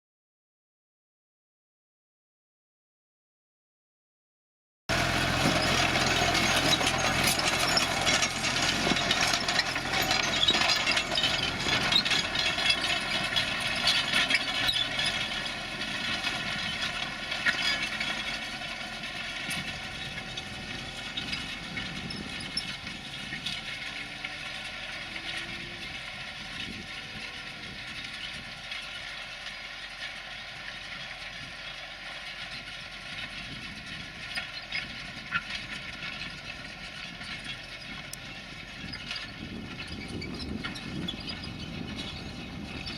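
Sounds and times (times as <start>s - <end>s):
tractor engine running under load: 4.9s - 42.9s.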